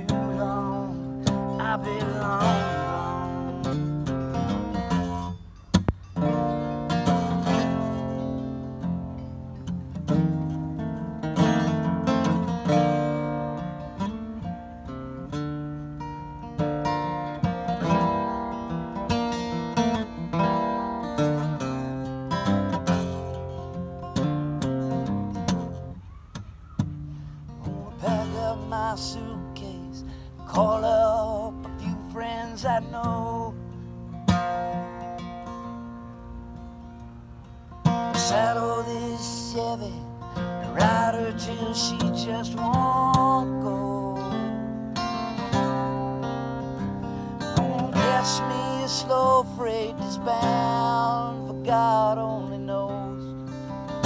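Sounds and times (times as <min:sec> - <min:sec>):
acoustic guitar: 0:00.0 - 0:54.0.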